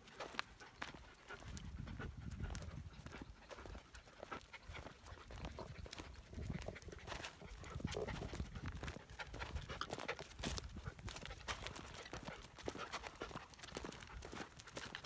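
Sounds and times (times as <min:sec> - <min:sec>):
dogs panting: 0:00.0 - 0:15.0
patter of footsteps: 0:00.0 - 0:15.0.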